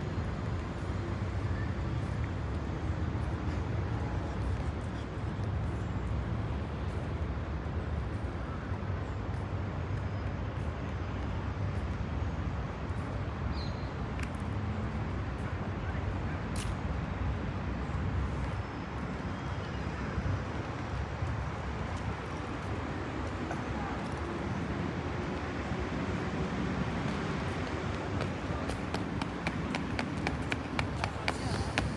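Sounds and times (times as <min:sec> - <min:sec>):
city traffic rumble: 0:00.0 - 0:31.9.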